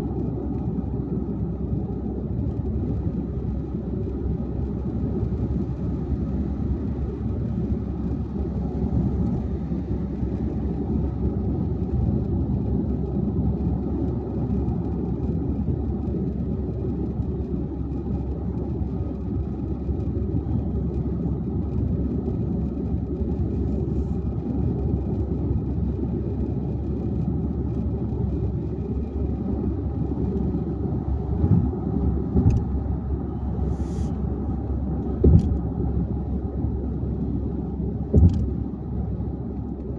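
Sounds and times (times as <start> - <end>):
car driving at highway speed: 0.0 - 39.9.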